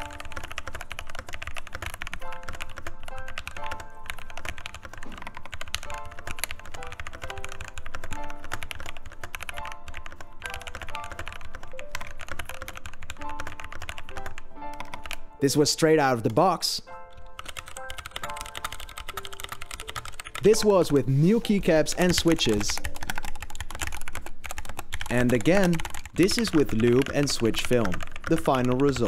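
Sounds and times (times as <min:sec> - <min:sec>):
fast mechanical keyboard typing: 0:00.0 - 0:16.6, 0:17.3 - 0:29.0
soft background music: 0:00.0 - 0:29.0.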